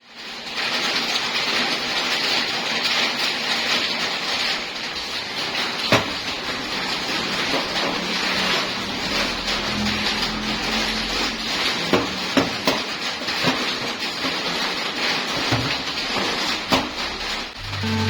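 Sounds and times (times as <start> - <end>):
welding arc crackling: 0.2 - 18.0.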